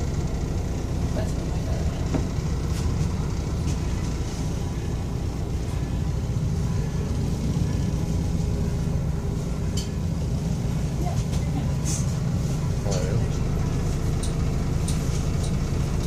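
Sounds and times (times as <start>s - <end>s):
light-rail car rumble: 0.0s - 16.0s.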